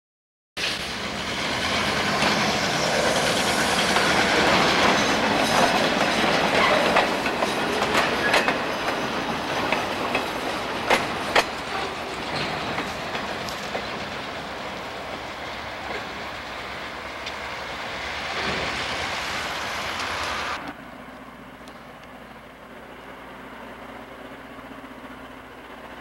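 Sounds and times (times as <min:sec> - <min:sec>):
freight train wheels rumbling: 0:00.6 - 0:26.0.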